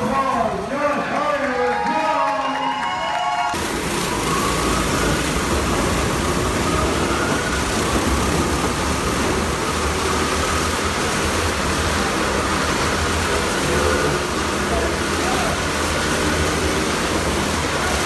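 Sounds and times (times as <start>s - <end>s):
motorcycle engines running: 3.5s - 18.0s.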